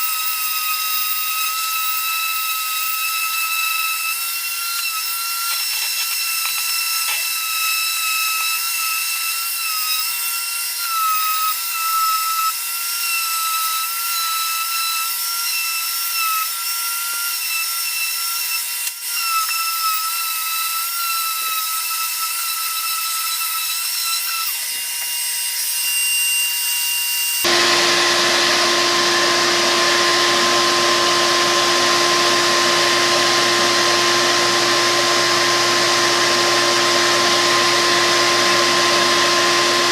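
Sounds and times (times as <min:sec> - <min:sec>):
orbital sander whining on wood: 0:00.0 - 0:26.4, 0:27.1 - 0:39.9.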